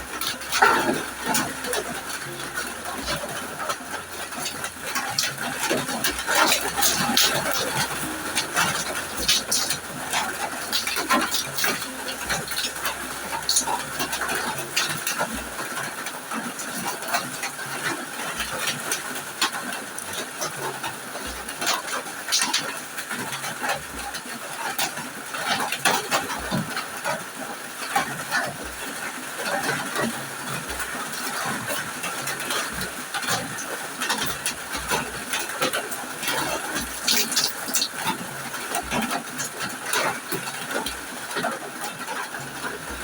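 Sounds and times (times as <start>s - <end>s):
heavy rain hiss: 0.0s - 43.0s
water splashing: 0.0s - 43.0s.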